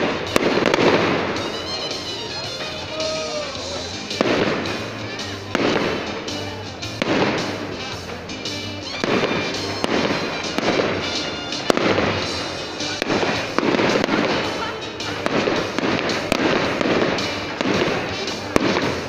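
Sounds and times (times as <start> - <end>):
fireworks bursting with sharp bangs: 0.0 - 19.0
music playing: 0.0 - 19.0.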